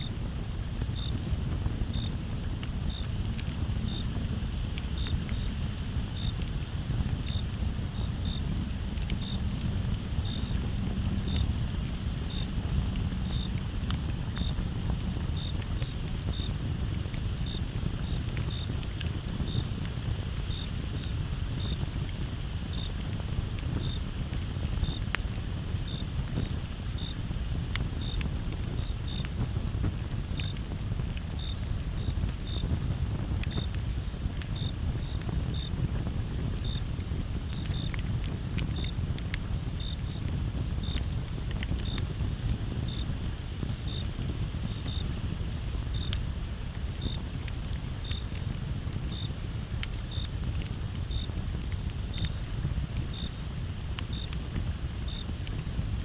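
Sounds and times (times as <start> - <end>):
campfire crackling and popping: 0.0 - 56.0
crickets trilling: 0.0 - 56.0
cricket chirping in short pulses: 4.8 - 9.4, 10.2 - 13.6, 14.4 - 18.8, 19.4 - 21.8, 23.8 - 35.8, 36.5 - 39.0, 39.8 - 55.9.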